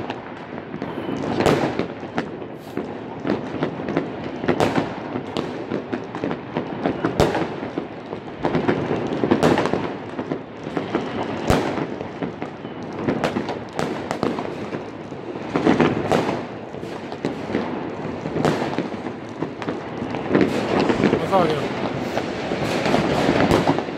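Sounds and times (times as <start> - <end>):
firecrackers crackling: 0.0 - 23.9
fireworks bangs: 0.0 - 23.9.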